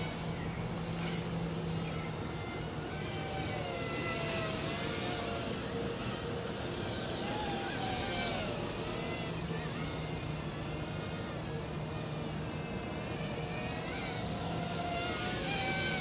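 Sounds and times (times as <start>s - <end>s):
quadcopter motors whining: 0.0s - 16.0s
crickets chirping: 0.4s - 15.8s.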